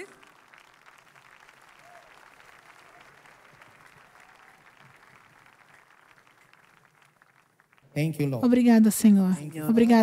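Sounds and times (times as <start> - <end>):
congregation applauding: 0.0 - 10.0.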